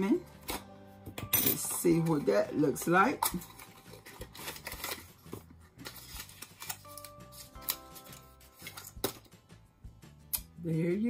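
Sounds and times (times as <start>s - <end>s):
faint music: 0.0s - 11.0s.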